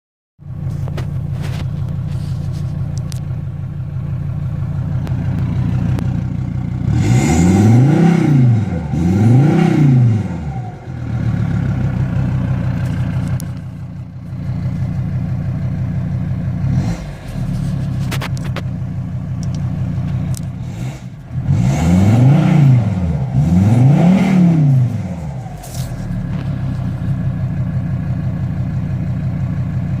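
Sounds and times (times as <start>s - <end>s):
diesel engine idling and revving: 0.4s - 30.0s.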